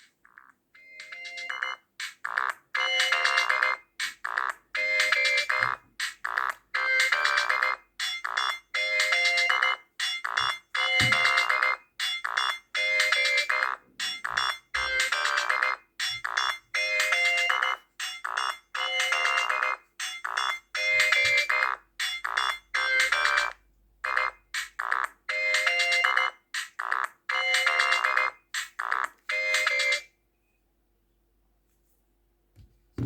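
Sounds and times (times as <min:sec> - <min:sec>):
mobile phone ringtone: 0:00.8 - 0:30.1.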